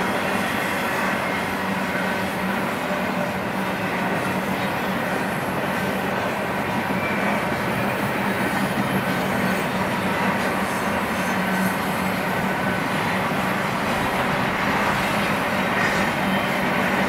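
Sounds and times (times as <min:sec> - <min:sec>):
freight train wheels rolling: 0:00.0 - 0:17.0.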